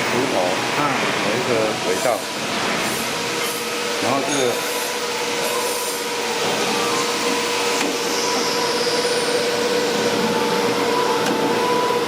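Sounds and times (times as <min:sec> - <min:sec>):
workshop machinery whirring: 0:00.0 - 0:12.0.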